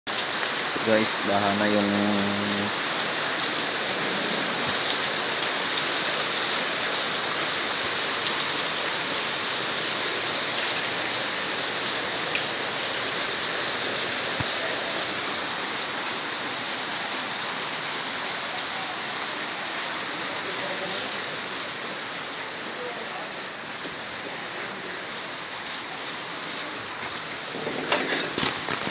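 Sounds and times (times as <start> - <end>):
heavy rain splashing on paving: 0.1 - 28.9.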